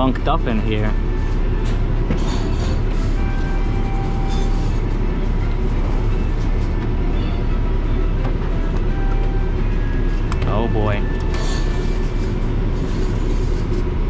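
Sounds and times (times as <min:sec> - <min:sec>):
faint music: 0:00.0 - 0:14.0
low machine rumble: 0:00.0 - 0:14.0.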